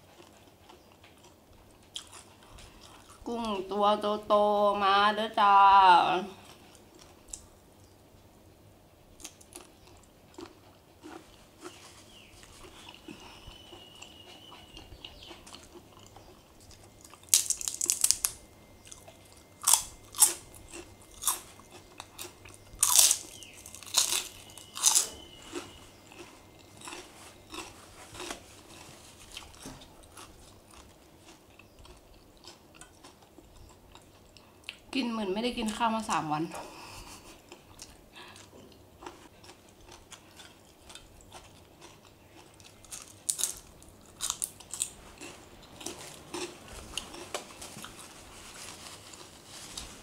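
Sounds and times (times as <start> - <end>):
person chewing crunchy food: 0.0 - 3.3, 6.3 - 7.6, 9.2 - 34.9, 37.0 - 50.0.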